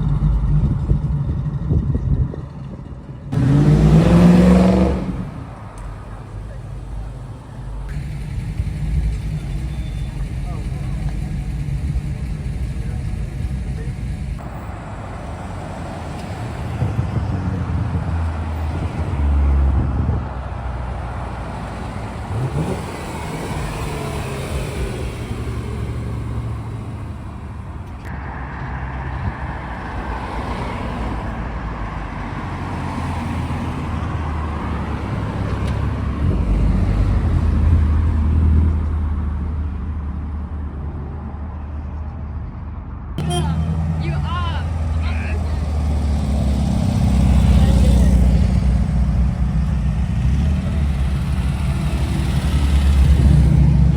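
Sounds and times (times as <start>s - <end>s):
car engines: 0.0s - 53.9s
road noise: 0.0s - 53.9s.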